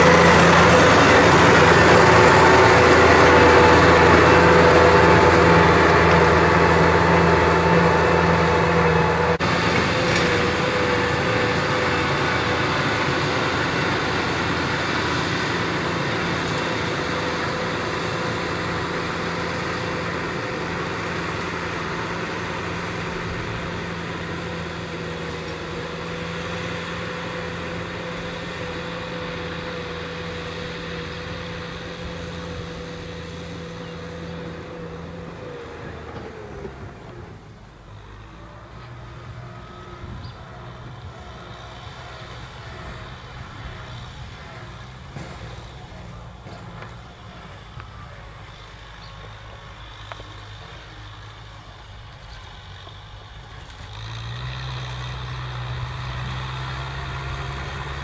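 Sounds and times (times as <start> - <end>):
tractor diesel engine: 0.0 - 58.0.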